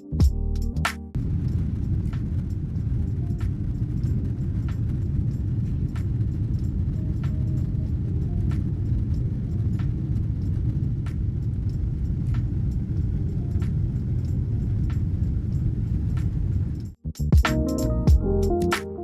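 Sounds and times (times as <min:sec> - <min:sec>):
airliner cabin rumble: 0:01.2 - 0:17.0.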